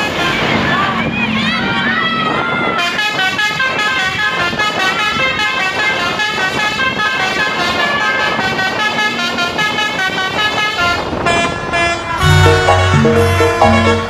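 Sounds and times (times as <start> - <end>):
multi-tone air horn tune: 2.7 - 14.0.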